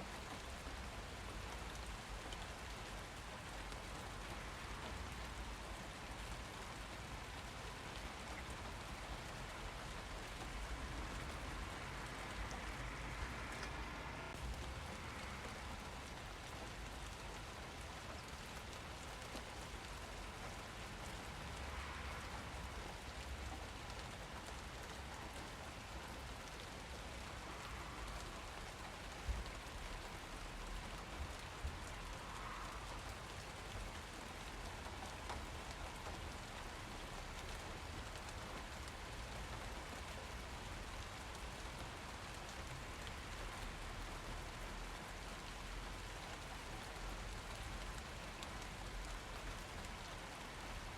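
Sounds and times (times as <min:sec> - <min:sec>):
rain pattering: 0:00.0 - 0:50.9.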